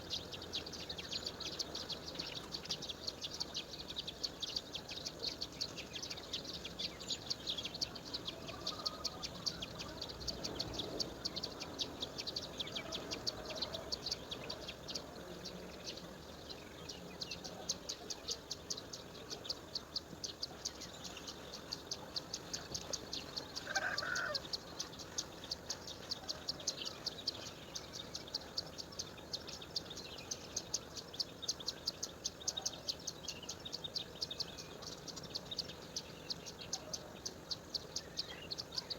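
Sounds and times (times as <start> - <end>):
insects chirping: 6.1 - 38.6.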